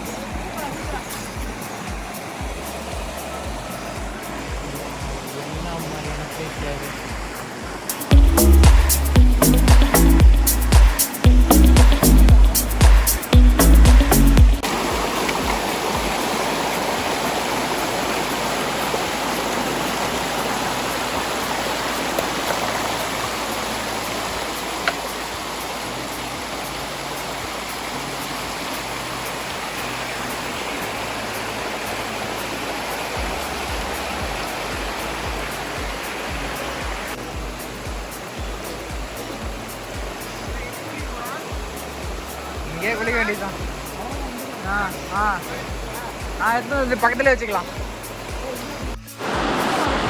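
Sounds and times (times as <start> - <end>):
river water rushing over rocks: 0.0 - 50.0.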